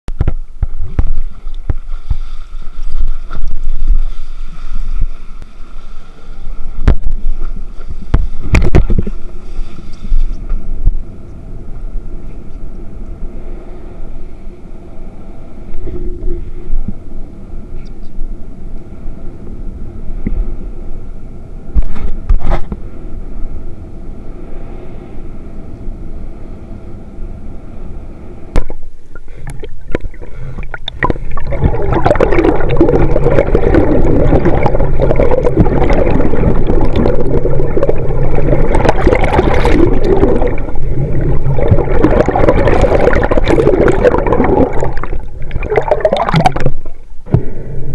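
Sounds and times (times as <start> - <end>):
water rumbling and sloshing: 0.0 - 47.9.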